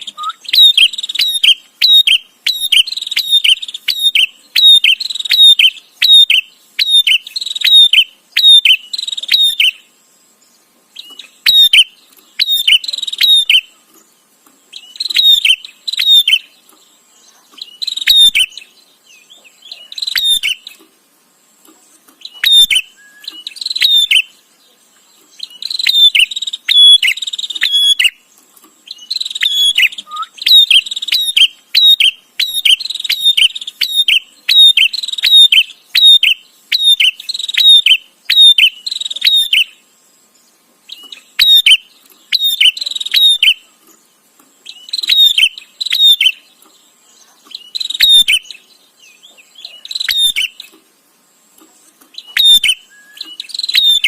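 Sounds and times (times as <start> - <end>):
bird chattering calls: 0.0 - 9.9, 11.0 - 13.8, 14.7 - 16.7, 17.3 - 20.8, 22.2 - 24.4, 25.4 - 28.2, 28.9 - 39.8, 40.9 - 43.7, 44.6 - 46.6, 47.2 - 50.8, 52.1 - 54.0.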